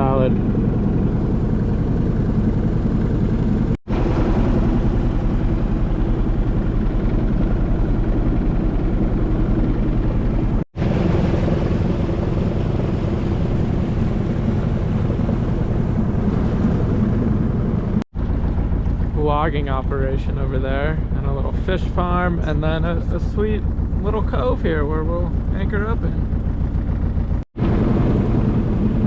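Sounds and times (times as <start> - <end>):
boat engine low drone: 0.0 - 29.0.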